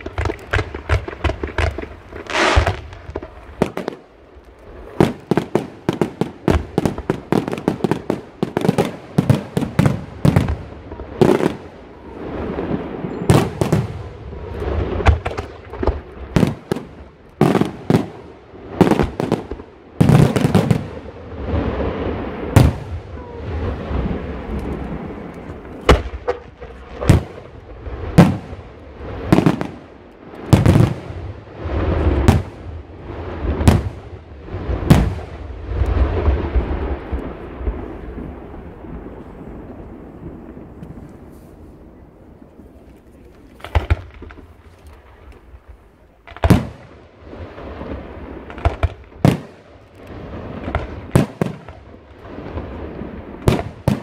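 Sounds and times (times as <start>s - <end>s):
echoes of fireworks: 0.0s - 54.0s
fireworks bangs: 0.0s - 54.0s.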